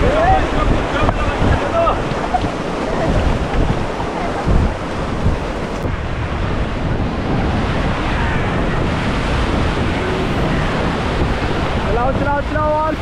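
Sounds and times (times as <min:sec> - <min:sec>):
river water rushing: 0:00.0 - 0:13.0
wind buffeting microphone: 0:00.0 - 0:13.0.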